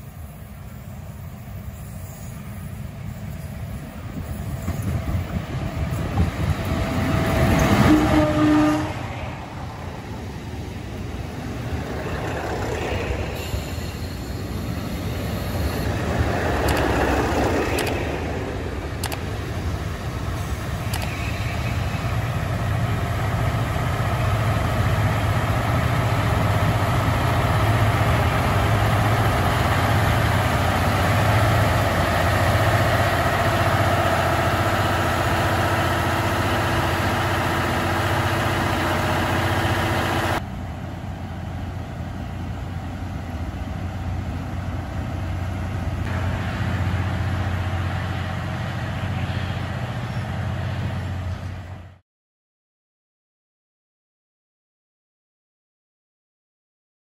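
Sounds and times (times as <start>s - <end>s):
diesel railcar engine idling: 0.0s - 52.0s.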